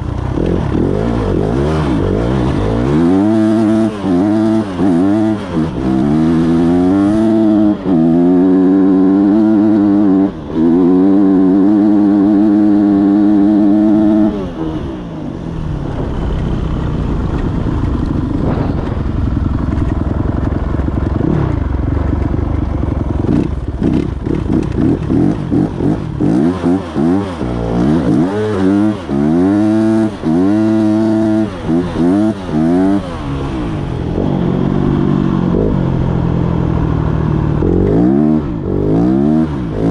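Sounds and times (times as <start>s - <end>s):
dirt bike engine revving: 0.0s - 16.1s, 17.2s - 39.9s.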